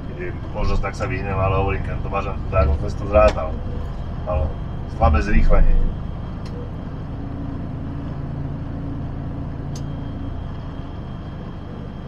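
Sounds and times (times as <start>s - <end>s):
passing traffic: 0.0s - 12.0s
truck diesel engine humming: 0.0s - 12.0s.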